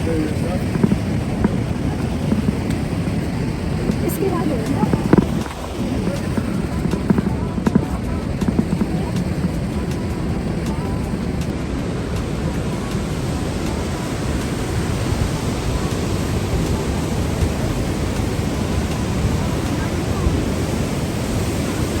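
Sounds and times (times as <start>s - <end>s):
rushing white water: 0.0s - 22.0s.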